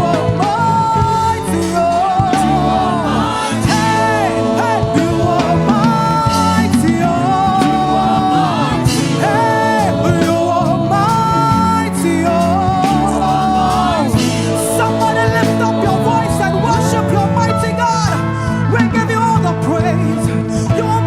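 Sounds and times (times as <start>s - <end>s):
band playing sustained chords: 0.0s - 21.0s
person singing: 0.0s - 21.0s.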